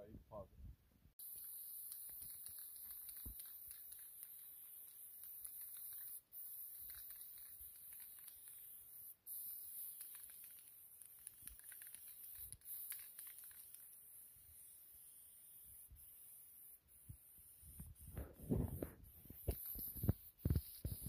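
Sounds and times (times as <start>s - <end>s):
spray-paint can hissing: 1.2s - 21.0s.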